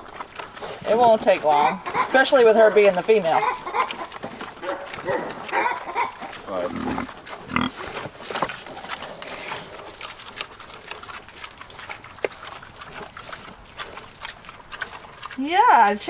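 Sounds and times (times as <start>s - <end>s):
pig grunting: 0.0s - 15.4s
pigs chewing: 0.0s - 16.0s.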